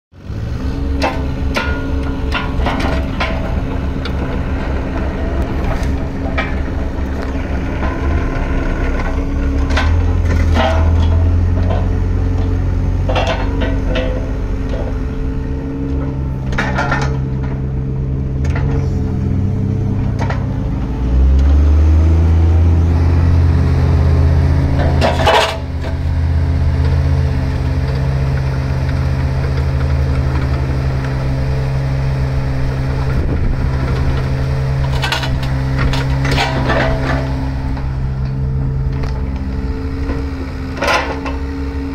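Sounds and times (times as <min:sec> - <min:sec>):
excavator diesel engine running: 0:00.1 - 0:41.9
metal clanks and knocks: 0:00.9 - 0:20.9, 0:24.6 - 0:31.9, 0:32.9 - 0:41.8.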